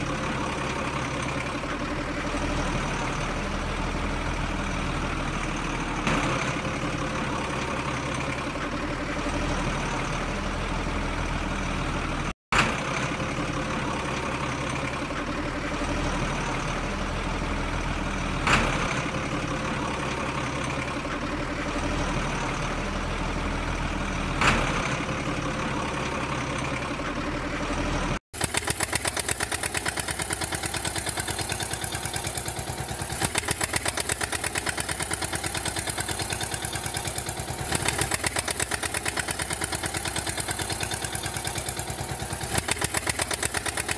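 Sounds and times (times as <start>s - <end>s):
engine chugging evenly: 0.0s - 43.9s
truck engine running: 0.0s - 43.9s.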